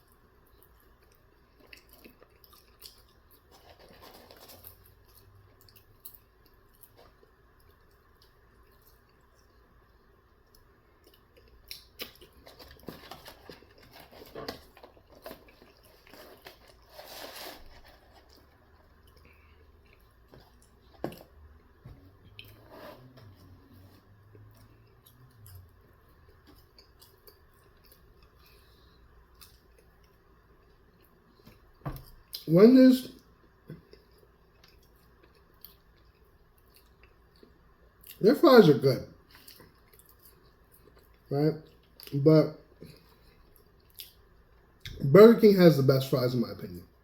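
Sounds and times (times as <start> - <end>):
chewing and eating: 0.0 - 32.4, 33.2 - 38.2, 39.2 - 44.9.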